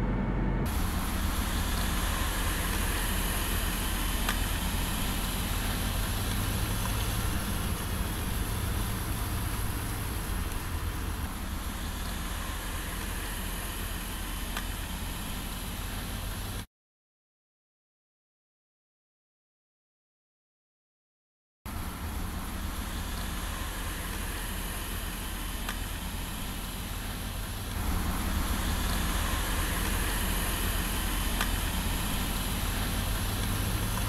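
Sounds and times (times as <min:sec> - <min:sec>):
heavy truck rumbling: 0:00.0 - 0:16.6, 0:21.7 - 0:34.0
road and wind noise: 0:00.0 - 0:16.7, 0:21.7 - 0:34.0.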